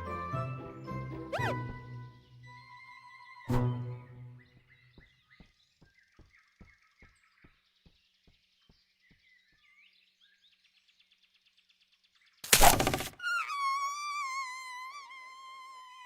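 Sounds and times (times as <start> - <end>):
faint birds chirping: 0.6 - 16.0.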